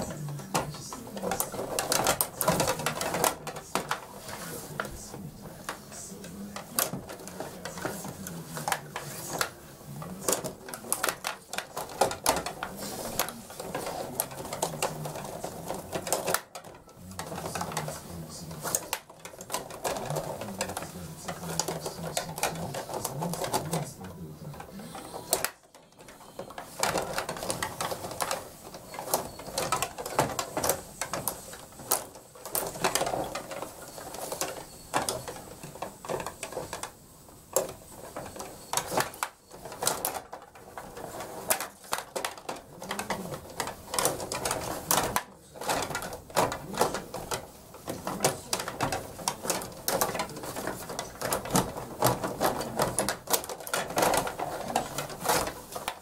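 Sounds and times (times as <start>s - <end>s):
table hockey rods clattering: 0.0s - 56.0s.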